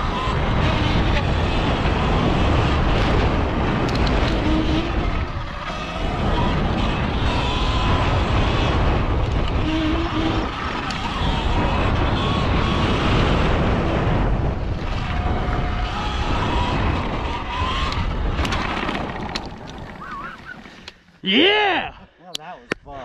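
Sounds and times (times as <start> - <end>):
electric motor whine: 0.0 - 18.6
wind buffeting microphone: 0.0 - 20.9.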